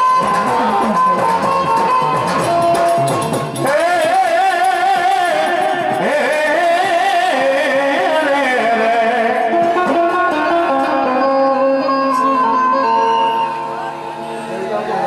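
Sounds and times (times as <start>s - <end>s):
devotional folk music: 0.0s - 15.0s.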